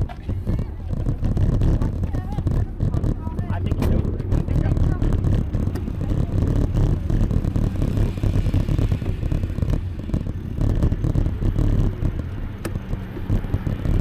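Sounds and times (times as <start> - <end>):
road rumble: 0.0 - 14.0
wind buffeting microphone: 0.0 - 14.0.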